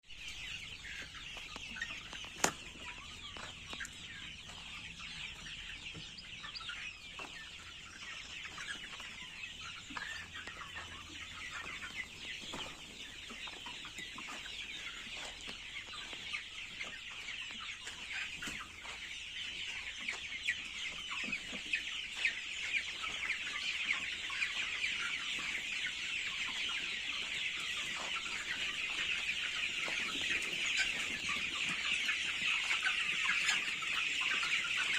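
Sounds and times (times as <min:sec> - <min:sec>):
chickens calling and clucking: 0:00.0 - 0:34.9.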